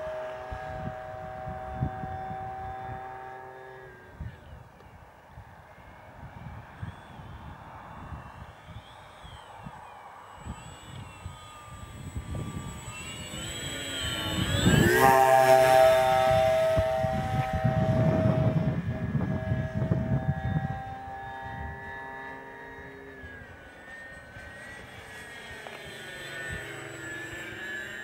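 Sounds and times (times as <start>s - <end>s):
model plane propellers whining: 0.0s - 28.0s.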